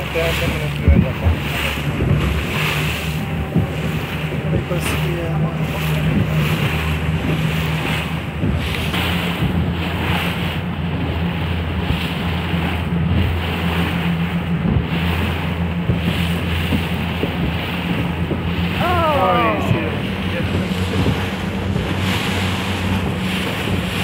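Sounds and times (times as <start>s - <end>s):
boat engine drone: 0.0s - 24.0s
water rushing past hull: 0.0s - 24.0s
wind buffeting microphone: 0.0s - 24.0s.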